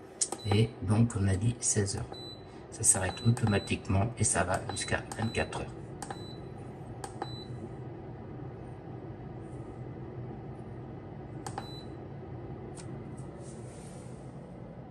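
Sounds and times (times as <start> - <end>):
dehydrator fan humming: 0.0 - 14.9.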